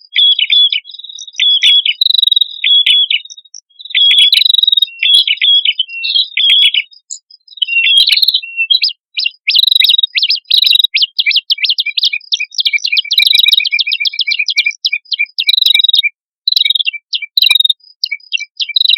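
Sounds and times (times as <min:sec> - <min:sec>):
warbler calling sharp chirps: 0:00.0 - 0:18.9.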